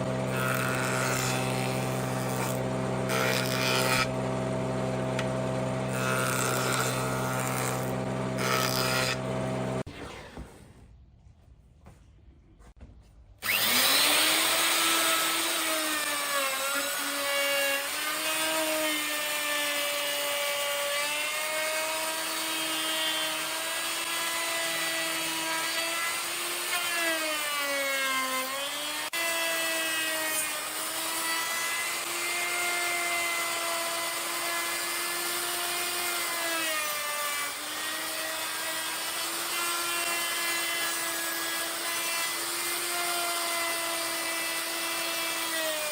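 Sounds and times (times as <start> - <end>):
power tool motor whining: 0.0 - 10.3, 13.4 - 45.9.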